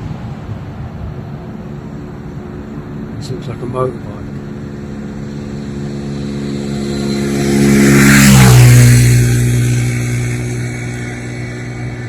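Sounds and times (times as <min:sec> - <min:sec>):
motorcycle passing by: 0:00.0 - 0:12.0.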